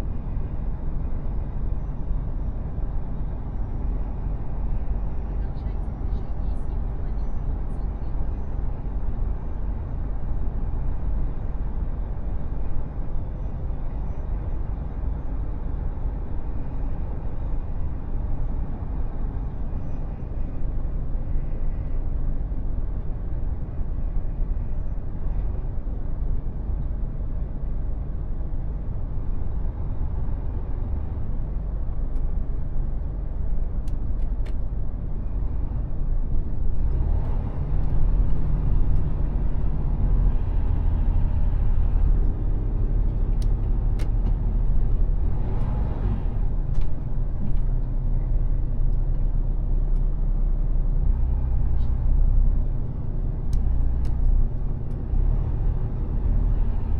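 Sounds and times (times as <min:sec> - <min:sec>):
road rumble: 0:00.0 - 0:56.9
truck diesel engine: 0:00.0 - 0:56.9.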